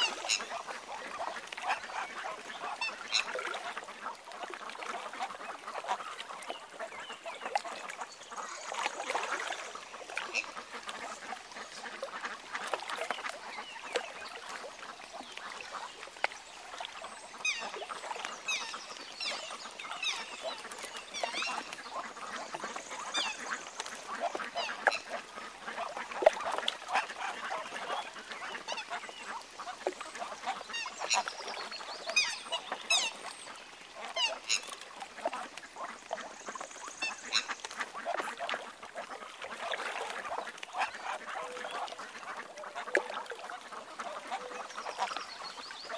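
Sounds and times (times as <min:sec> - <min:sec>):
waterfowl chirping: 0:00.0 - 0:45.9.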